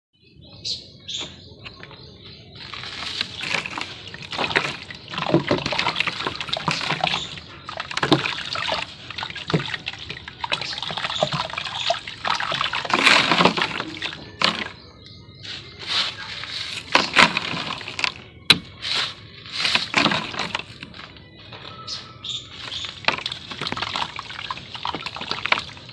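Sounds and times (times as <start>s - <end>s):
water sloshing: 1.4s - 25.9s.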